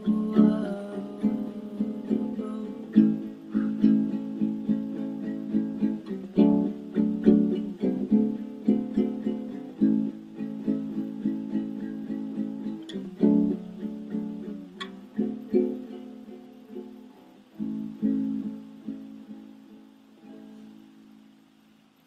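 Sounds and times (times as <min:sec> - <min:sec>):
acoustic guitar strumming chords: 0:00.0 - 0:21.4.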